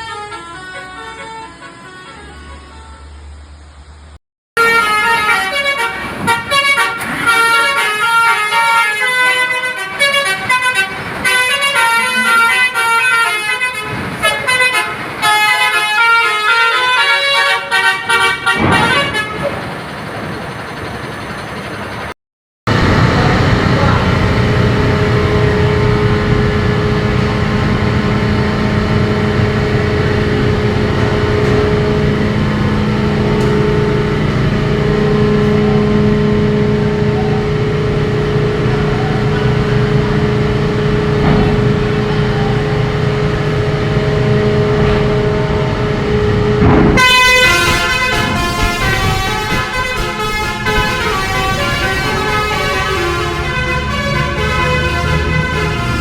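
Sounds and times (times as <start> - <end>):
musical bus horn tune: 0.0 - 3.6, 4.6 - 19.6, 22.7 - 56.0
engine drone: 0.0 - 22.1, 22.7 - 56.0.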